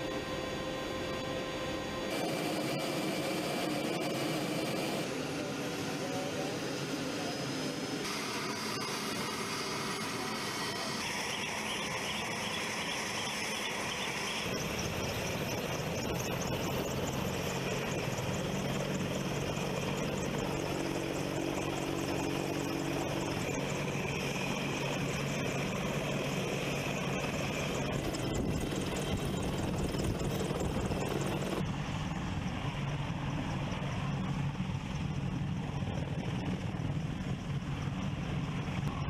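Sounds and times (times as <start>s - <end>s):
helicopter engines whining: 0.0s - 39.0s
helicopter rotor turning: 0.0s - 39.0s.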